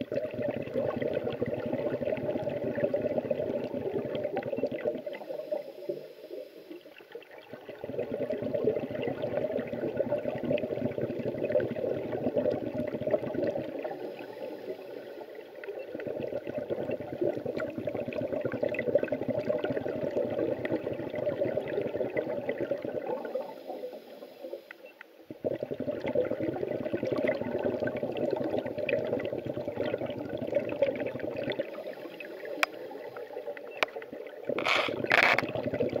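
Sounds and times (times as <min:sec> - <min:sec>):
underwater bubbles gurgling: 0:00.0 - 0:36.0.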